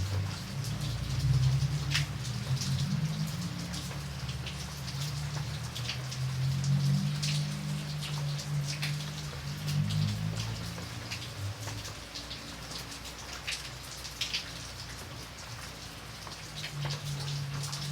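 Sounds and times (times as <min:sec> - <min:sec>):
rain drops striking a surface: 0:00.0 - 0:17.9.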